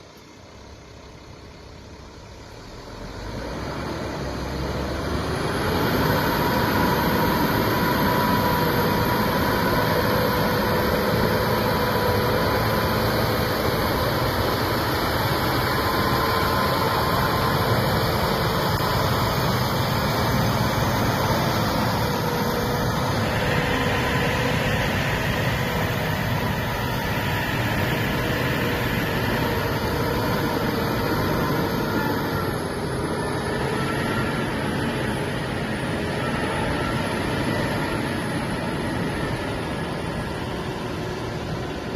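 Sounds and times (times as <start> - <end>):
faint steady whine: 0.0 - 41.9
diesel truck engine running: 0.5 - 41.9.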